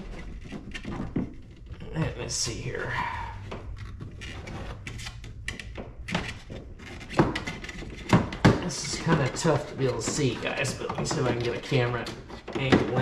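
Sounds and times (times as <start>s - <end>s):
hands flexing plastic liner: 0.0s - 13.0s
knocks clicks and scraping: 0.0s - 13.0s.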